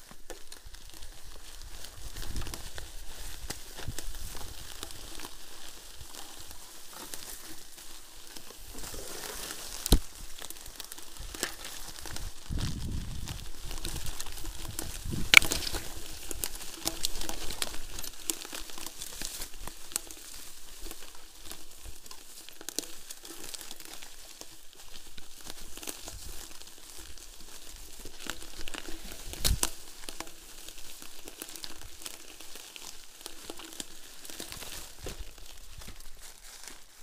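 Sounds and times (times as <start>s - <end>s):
bike tyres rustling over leaves: 0.0s - 37.0s
plants brushing against bike: 0.0s - 37.0s
small clicks and rattles: 0.0s - 37.0s.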